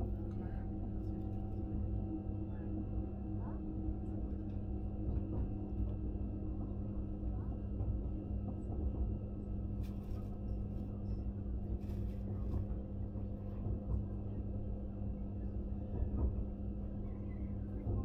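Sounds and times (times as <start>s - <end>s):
train carriage hum and rumble: 0.0s - 18.0s.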